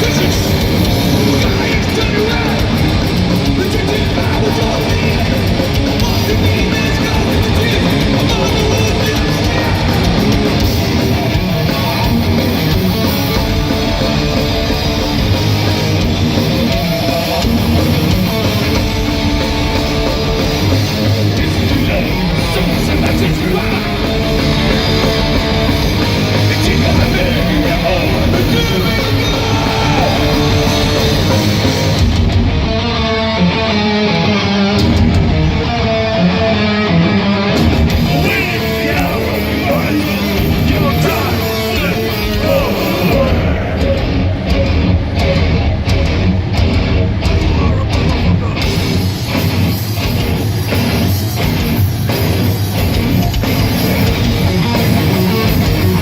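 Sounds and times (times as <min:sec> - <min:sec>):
sliding high guitar notes: 0:00.0 - 0:56.0
thrash metal band playing live: 0:00.0 - 0:56.0.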